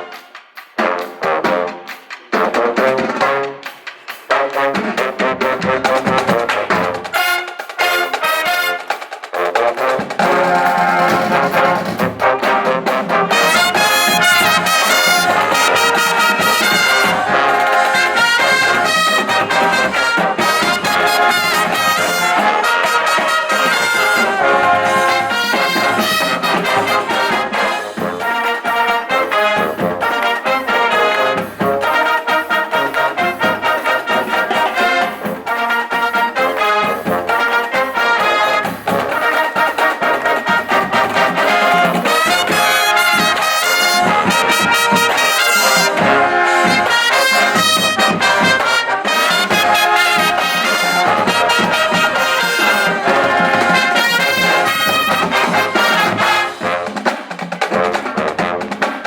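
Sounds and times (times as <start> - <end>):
marching band brass: 0.0 - 59.0
steady drum beat: 0.0 - 59.0.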